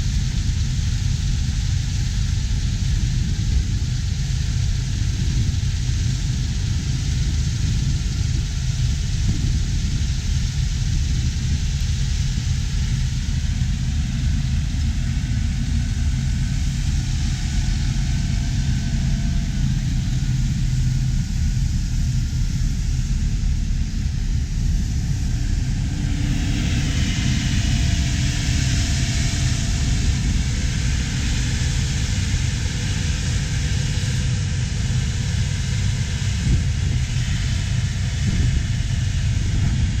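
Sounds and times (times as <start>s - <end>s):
heavy machinery rumbling: 0.0s - 40.0s
hiss: 0.0s - 40.0s.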